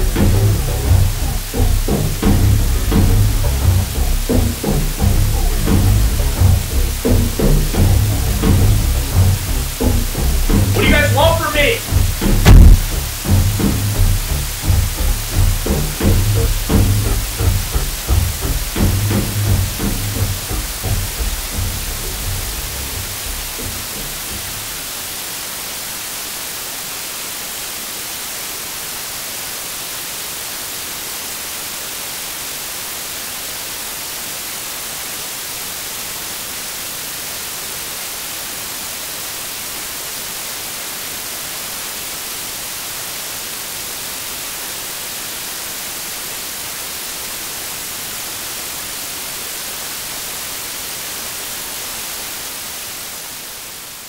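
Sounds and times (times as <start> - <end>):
tv static hiss: 0.0 - 54.0.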